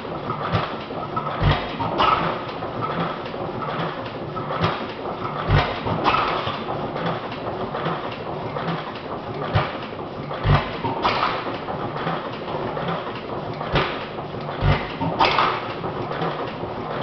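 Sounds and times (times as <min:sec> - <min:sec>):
engine firing thumps: 0:00.0 - 0:17.0.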